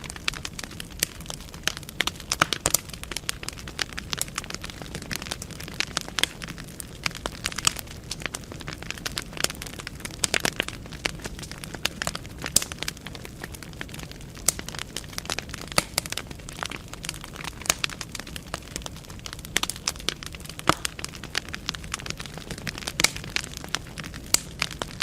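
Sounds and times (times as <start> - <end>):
firewood crackling and popping: 0.0 - 25.0
low rumble of flames: 0.0 - 25.0.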